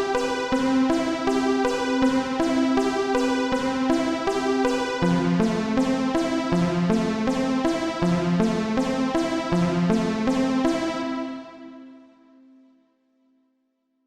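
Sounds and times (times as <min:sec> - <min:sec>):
synthesizer and electric piano melody: 0:00.0 - 0:12.4.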